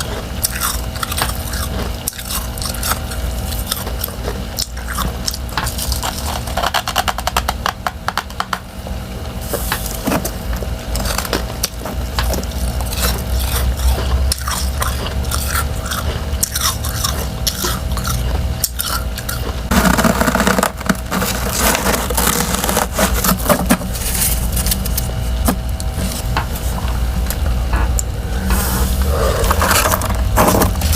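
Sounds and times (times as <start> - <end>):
crunching ice being chewed: 0.0 - 8.5, 9.4 - 27.4, 29.0 - 30.9
steady low hum: 0.0 - 30.9.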